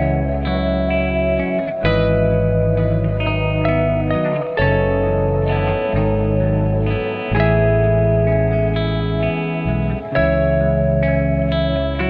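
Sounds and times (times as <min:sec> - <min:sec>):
held chords over deep bass: 0:00.0 - 0:12.0.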